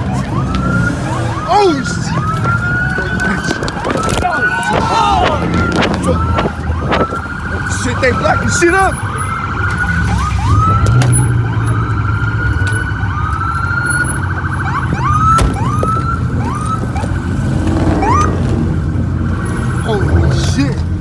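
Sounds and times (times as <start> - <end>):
car engines rumbling: 0.0 - 21.0
police sirens whooping: 0.0 - 21.0.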